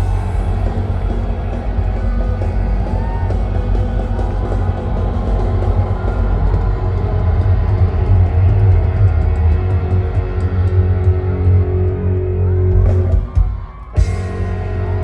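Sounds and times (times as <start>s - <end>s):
rock band playing loudly: 0.0s - 15.0s.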